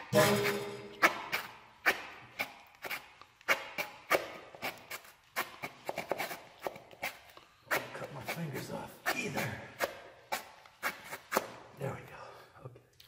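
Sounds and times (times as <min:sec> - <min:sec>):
hand saw rasping through bone: 0:00.2 - 0:11.5.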